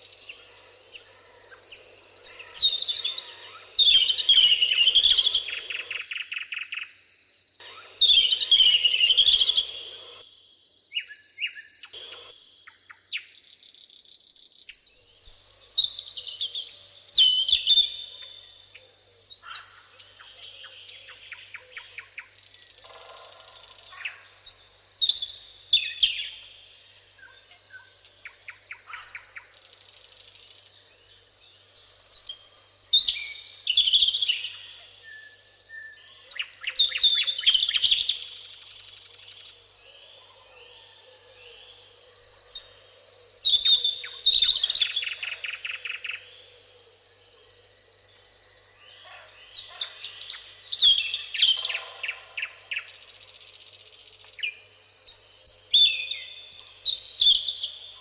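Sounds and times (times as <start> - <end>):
insects buzzing: 0.0 - 11.0, 11.8 - 58.0
insects droning: 0.0 - 58.0
songbirds singing: 0.0 - 58.0.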